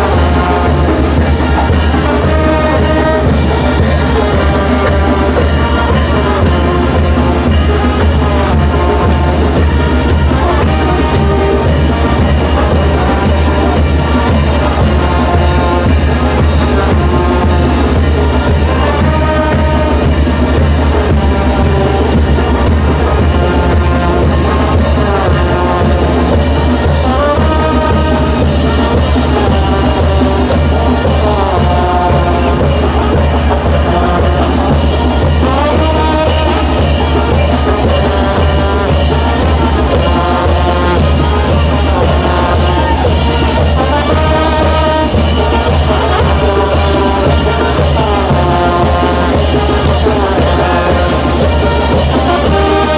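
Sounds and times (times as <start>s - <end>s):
brass band playing: 0.0s - 52.9s
drum and cymbal beat: 0.0s - 52.9s.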